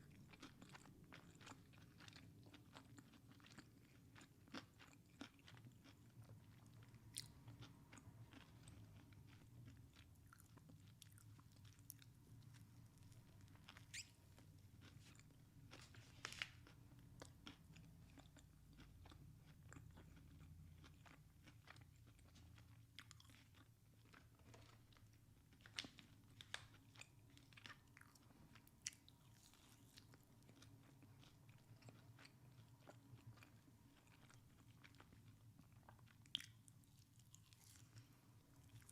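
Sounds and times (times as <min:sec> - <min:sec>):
faint low hum: 0:00.0 - 0:38.9
person chewing crunchy food: 0:00.0 - 0:38.9.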